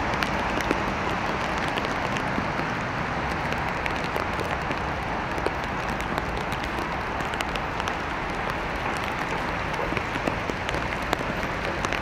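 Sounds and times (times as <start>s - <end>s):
rain hiss: 0.0s - 12.0s
raindrops tapping: 0.0s - 12.0s.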